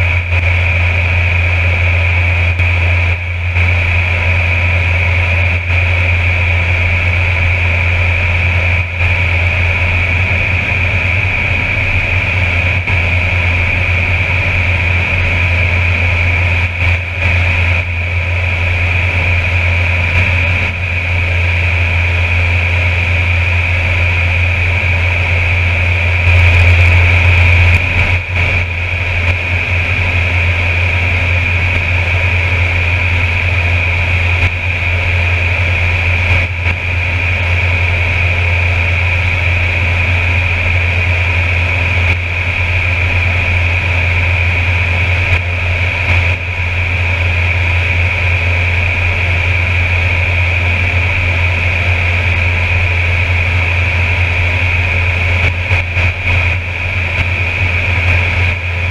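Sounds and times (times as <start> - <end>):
high engine whine: 0.0 - 58.9
turboprop engine drone: 0.0 - 58.9.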